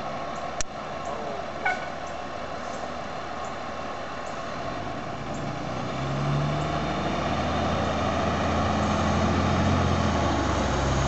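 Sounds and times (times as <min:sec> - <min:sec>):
fire engine diesel engine running: 0:00.0 - 0:11.0.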